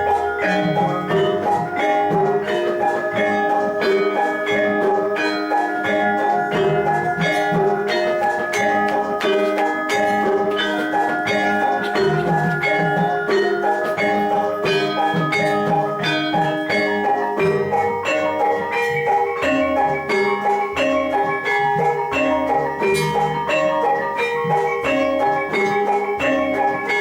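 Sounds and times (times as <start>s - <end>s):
bronze metallophones ringing: 0.0s - 27.0s
gamelan ensemble playing: 0.0s - 27.0s.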